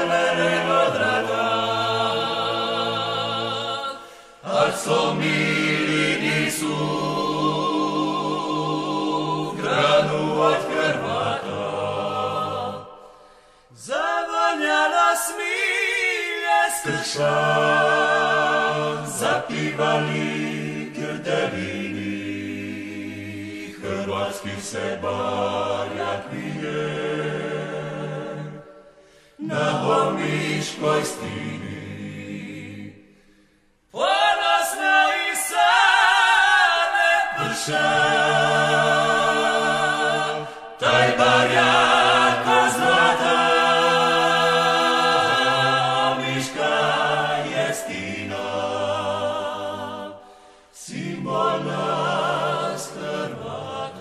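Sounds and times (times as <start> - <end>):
male vocal group singing a cappella: 0.0 - 54.0.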